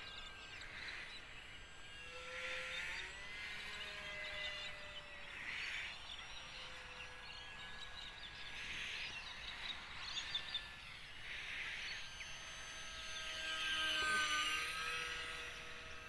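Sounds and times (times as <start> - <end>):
model plane electric motor whine: 0.0 - 16.0.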